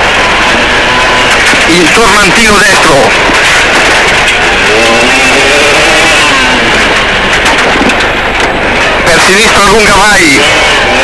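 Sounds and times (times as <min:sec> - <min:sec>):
gravel and road noise: 0:00.0 - 0:11.0
rally car engine revving: 0:00.0 - 0:11.0.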